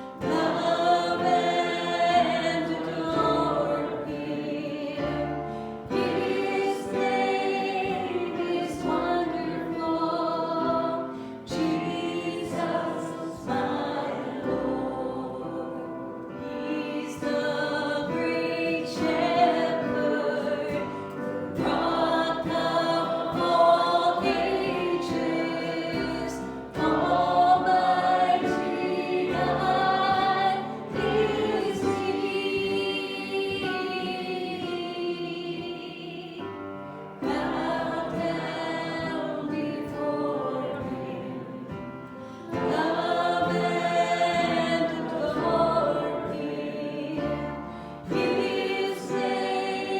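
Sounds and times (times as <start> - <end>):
group singing worship song: 0.0 - 49.9.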